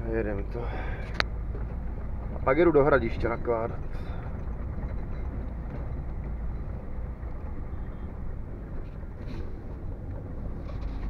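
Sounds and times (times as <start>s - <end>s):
road noise: 0.0s - 11.0s
truck diesel engine rumbling: 0.0s - 11.0s.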